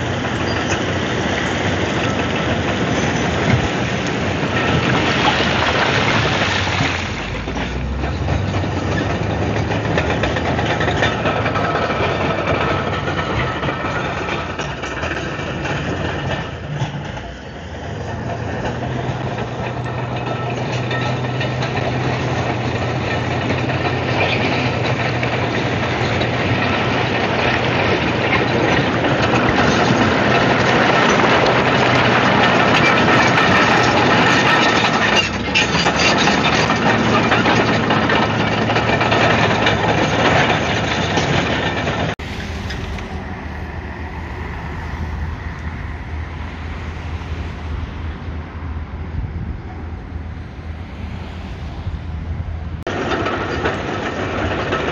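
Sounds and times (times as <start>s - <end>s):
bulldozer diesel engine: 0.0s - 54.9s
steel tracks clattering: 0.0s - 54.9s.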